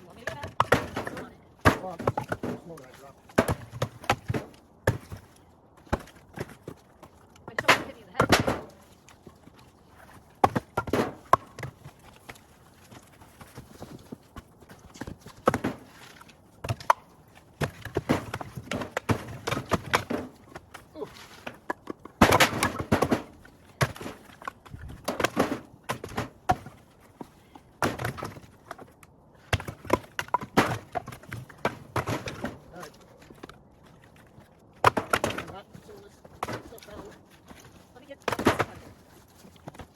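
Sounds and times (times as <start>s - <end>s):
firewood pieces knocking together: 0.0s - 39.9s.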